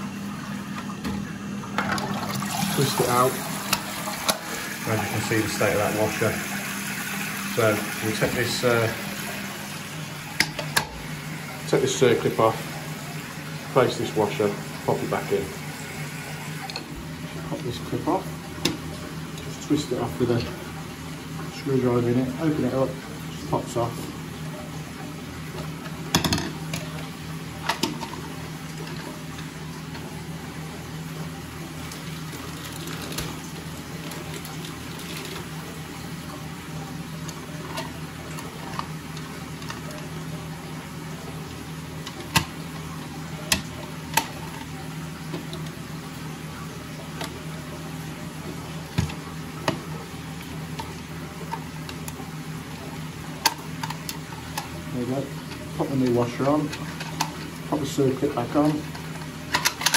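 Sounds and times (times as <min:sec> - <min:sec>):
water running into toilet cistern: 0:00.0 - 0:59.9.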